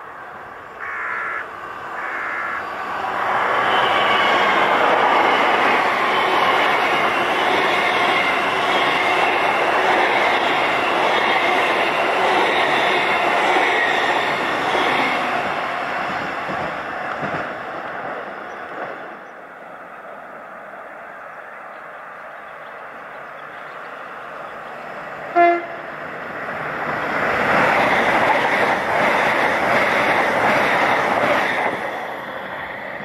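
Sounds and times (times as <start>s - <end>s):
train wheels on rail: 0.0s - 33.0s.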